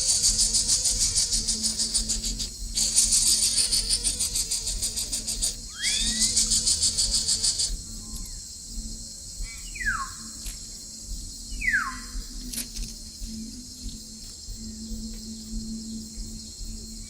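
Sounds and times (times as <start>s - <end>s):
high insect drone: 0.0s - 17.0s
loud pulsing insect buzz: 0.0s - 17.0s.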